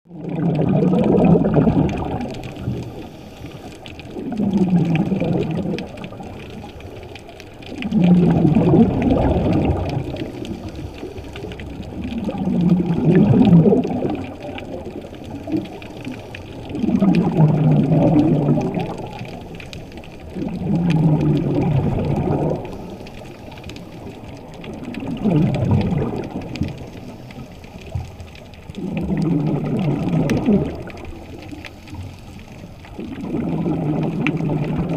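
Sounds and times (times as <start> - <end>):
underwater exhaled bubbles: 0.0 - 34.9.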